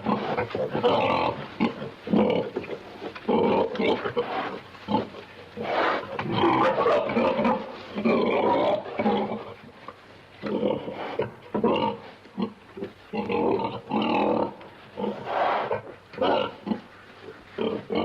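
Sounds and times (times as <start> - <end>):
pig grunting: 0.0 - 9.6, 10.4 - 16.9, 17.5 - 18.0.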